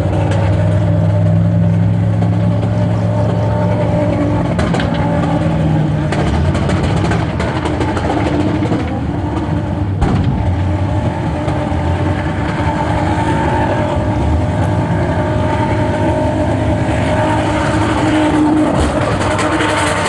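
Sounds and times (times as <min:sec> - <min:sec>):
car engine revving high: 0:00.0 - 0:20.0.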